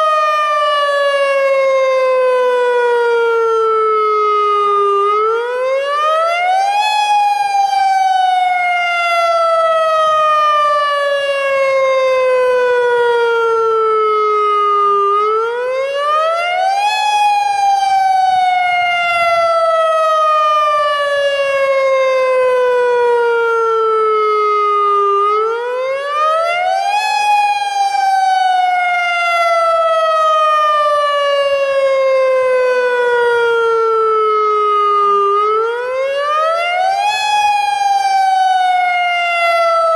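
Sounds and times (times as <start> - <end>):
electronic warning siren wail: 0.0 - 39.9.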